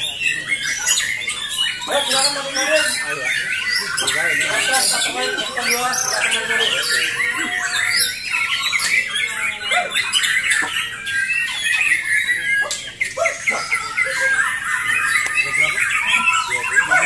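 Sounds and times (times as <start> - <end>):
many songbirds singing: 0.0 - 17.0.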